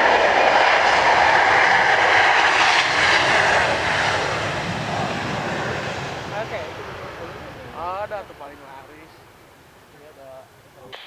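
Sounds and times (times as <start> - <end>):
jet airliner passing: 0.0 - 11.0.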